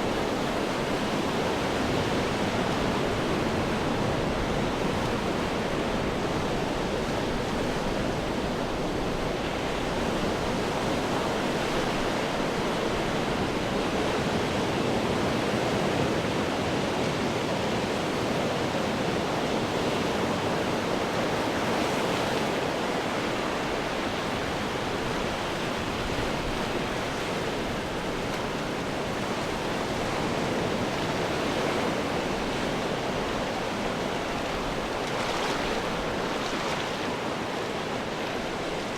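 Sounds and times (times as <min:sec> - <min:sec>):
ocean waves breaking on rocks: 0:00.0 - 0:38.9.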